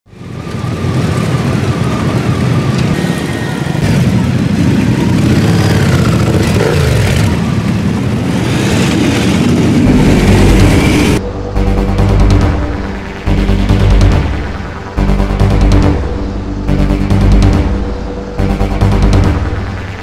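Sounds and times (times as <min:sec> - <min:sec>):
motorcycle engines revving: 0:00.1 - 0:20.0.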